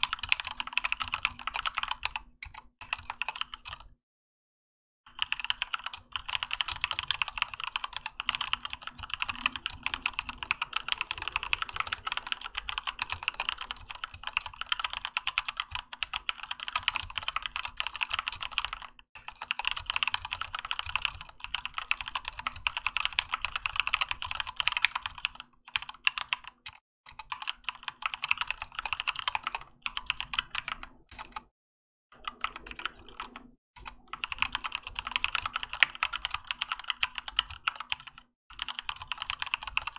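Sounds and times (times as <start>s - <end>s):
mechanical keyboard typing: 0.0s - 3.9s, 5.1s - 31.5s, 32.2s - 39.9s.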